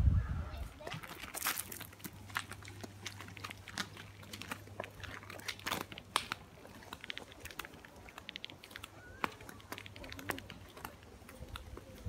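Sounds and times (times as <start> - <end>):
footsteps crunching on dirt path: 0.6 - 12.0.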